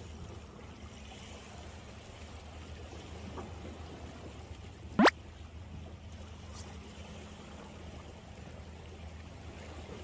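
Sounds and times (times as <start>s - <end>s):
water lapping at shore: 0.0s - 10.0s.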